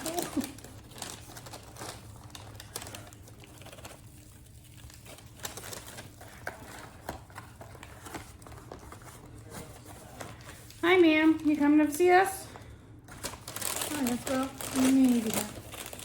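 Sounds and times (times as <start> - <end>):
food packaging rustling: 0.0 - 16.0.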